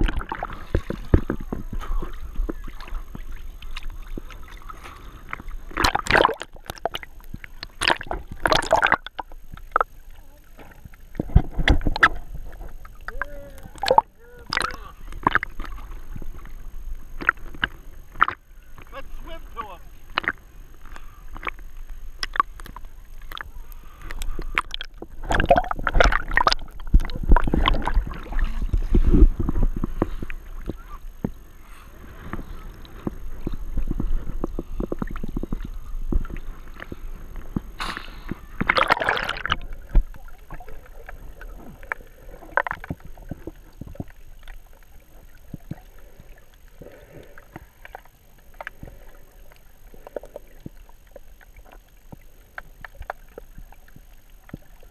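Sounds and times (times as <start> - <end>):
water sloshing and splashing: 0.0 - 54.9.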